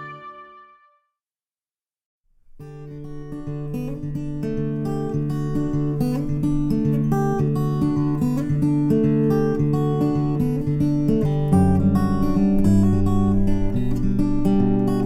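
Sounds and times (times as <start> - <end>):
acoustic guitar strumming and picking: 2.6 - 15.0.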